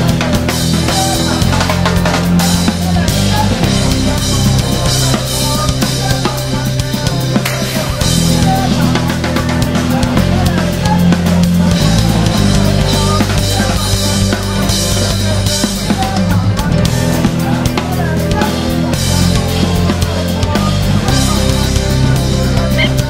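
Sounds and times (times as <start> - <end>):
drum kit: 0.0 - 23.0
electric bass line: 0.0 - 23.0.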